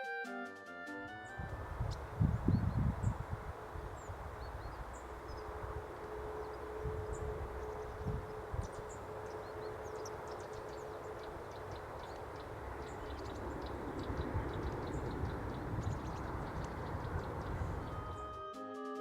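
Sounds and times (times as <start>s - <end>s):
steady low rumble: 1.4s - 18.2s
faint steady hum: 1.5s - 18.2s.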